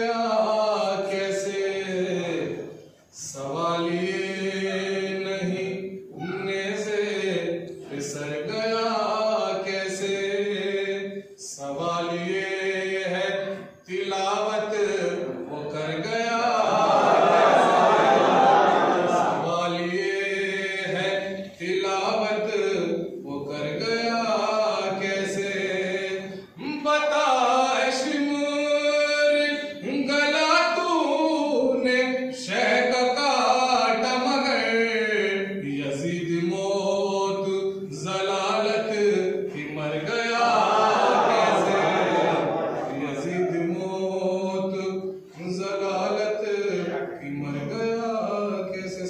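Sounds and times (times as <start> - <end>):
man chanting: 0.0 - 16.8, 19.3 - 40.8, 41.4 - 49.0
man singing unaccompanied: 0.0 - 16.8, 19.4 - 41.8, 42.9 - 49.0.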